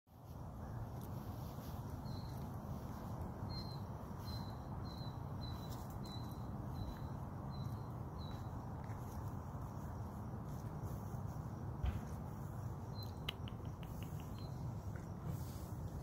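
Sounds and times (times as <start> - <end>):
small bird chirping: 0.3 - 16.0.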